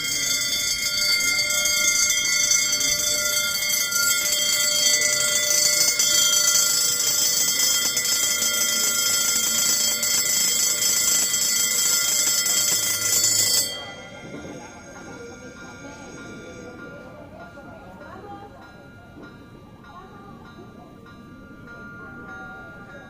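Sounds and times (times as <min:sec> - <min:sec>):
level crossing warning bell: 0:00.0 - 0:23.0.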